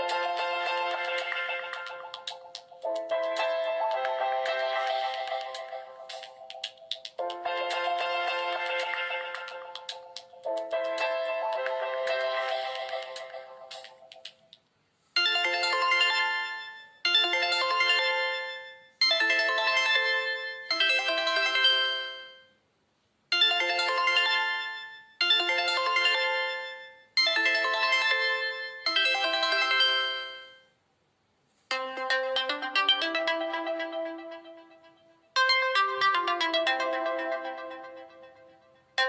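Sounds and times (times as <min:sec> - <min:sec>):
phone ringtone chords: 0:00.0 - 0:14.5, 0:15.2 - 0:22.6, 0:23.3 - 0:30.7, 0:31.7 - 0:39.0.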